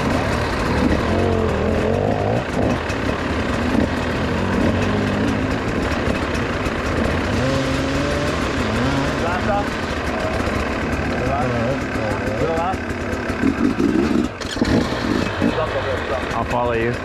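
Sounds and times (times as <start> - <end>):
dirt bike engine idling: 0.0 - 17.0.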